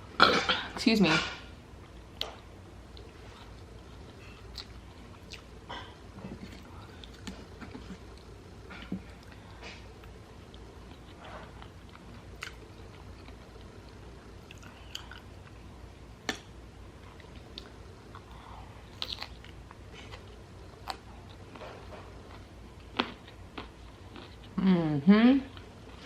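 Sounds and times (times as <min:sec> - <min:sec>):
person chewing food: 0:01.8 - 0:15.6, 0:16.2 - 0:24.6.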